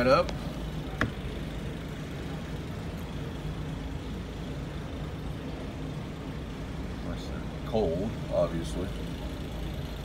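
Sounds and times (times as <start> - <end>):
boat engines idling: 0.0 - 10.0.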